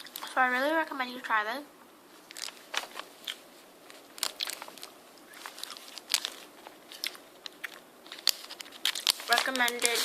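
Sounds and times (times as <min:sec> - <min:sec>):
chewy candy being chewed: 0:00.0 - 0:00.4, 0:02.2 - 0:10.0.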